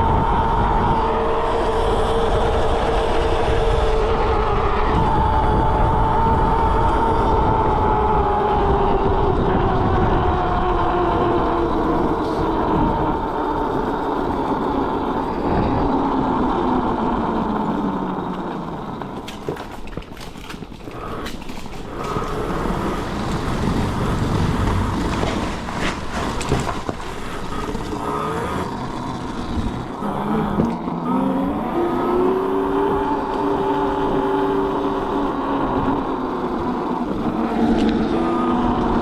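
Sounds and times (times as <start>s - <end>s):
mini bike motor whining: 0.0s - 39.0s
wheel and road rumble: 0.0s - 39.0s.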